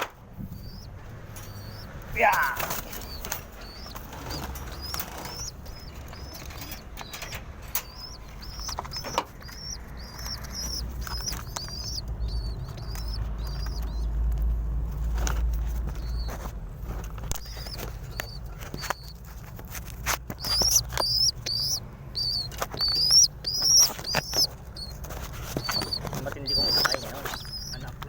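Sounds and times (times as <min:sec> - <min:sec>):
pigeons peeping: 0:00.0 - 0:28.0.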